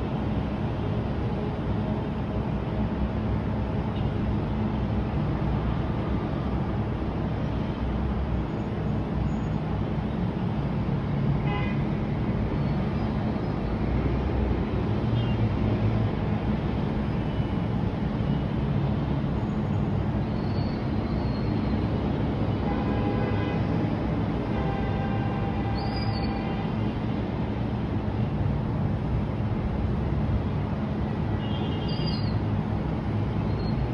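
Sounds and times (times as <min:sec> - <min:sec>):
city traffic rumble: 0:00.0 - 0:33.9.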